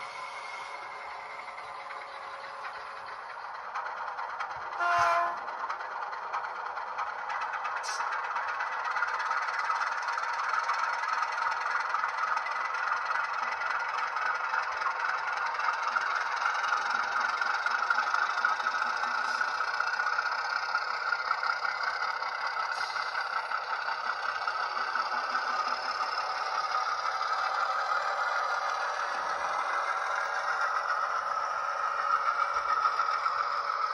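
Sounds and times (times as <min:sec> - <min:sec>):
model locomotive engine sound: 0:00.0 - 0:33.9
wheels rattling on track: 0:00.0 - 0:33.9.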